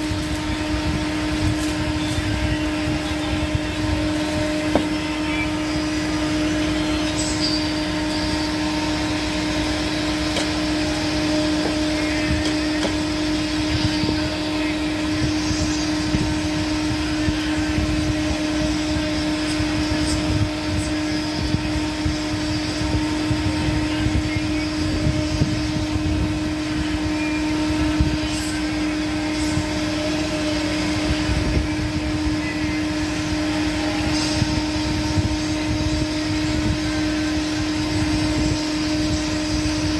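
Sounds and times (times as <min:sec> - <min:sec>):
low rumbling background noise: 0:00.0 - 0:39.9
mechanical hum: 0:00.0 - 0:39.9.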